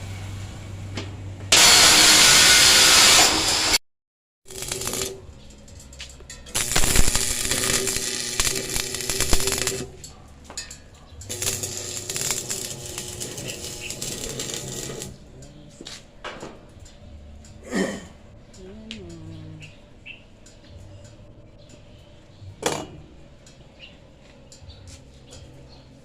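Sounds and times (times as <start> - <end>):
background music: 4.5 - 26.0.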